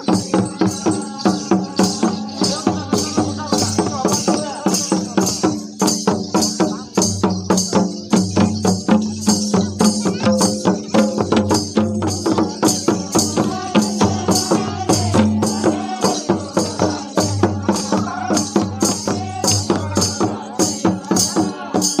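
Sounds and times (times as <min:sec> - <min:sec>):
people singing: 0:00.0 - 0:07.0, 0:07.6 - 0:22.0
barrel drums in dance rhythm: 0:00.0 - 0:22.0.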